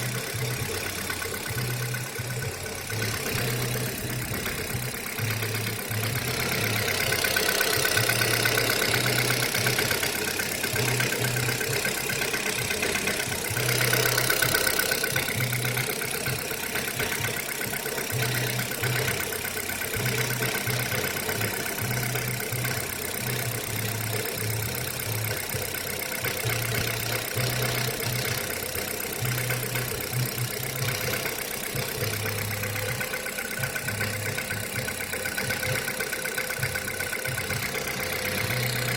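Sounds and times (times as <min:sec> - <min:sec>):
car engine idling: 0:00.0 - 0:38.9
engine knocking: 0:00.0 - 0:38.9.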